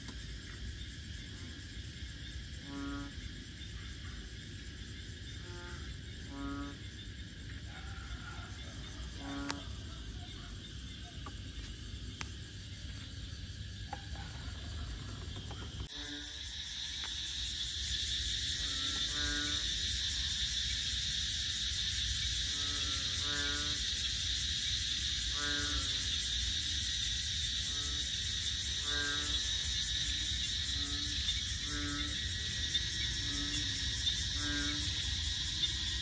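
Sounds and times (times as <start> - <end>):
high-pitched frog chorus: 0.0 - 36.0
frog croaking: 2.2 - 36.0.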